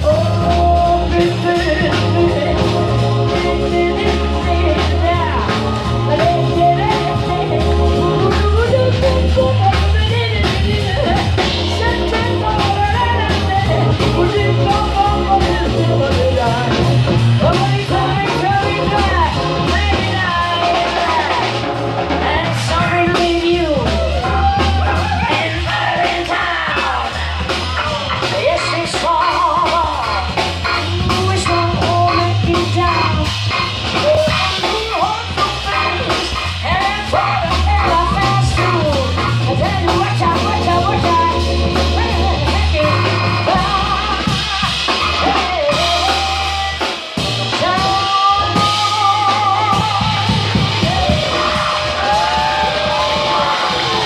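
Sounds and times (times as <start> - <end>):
drum kit with cymbals: 0.0 - 54.0
keyboard with low bass line: 0.0 - 54.0
woman singing with vibrato: 0.0 - 54.0.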